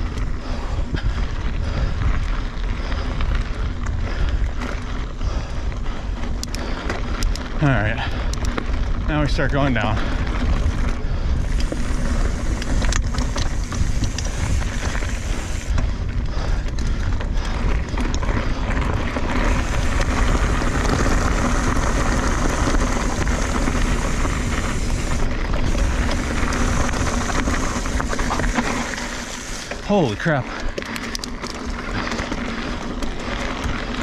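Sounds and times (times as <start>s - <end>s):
bike clicking and rattling: 0.0s - 34.0s
wind buffeting microphone: 0.0s - 34.0s
tyres rumbling over dirt: 2.2s - 34.0s.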